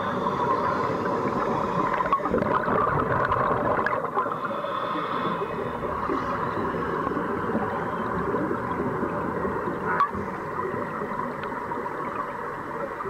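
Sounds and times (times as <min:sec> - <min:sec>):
underwater air bubbling: 0:00.0 - 0:13.0.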